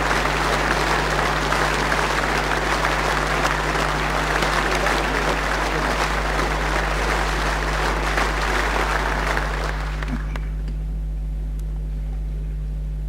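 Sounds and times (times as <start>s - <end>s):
audience applauding: 0.0s - 10.7s
steady low hum: 0.0s - 13.0s.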